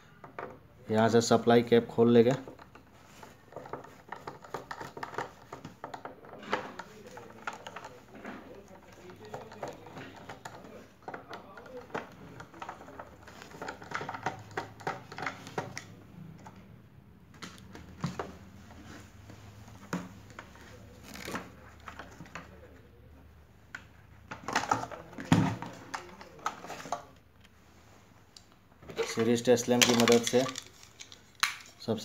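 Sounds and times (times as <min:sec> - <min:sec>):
plastic knocks and clatter: 0:00.2 - 0:00.7, 0:02.2 - 0:16.6, 0:17.3 - 0:19.0, 0:19.6 - 0:22.6, 0:23.7 - 0:27.2, 0:28.8 - 0:31.7.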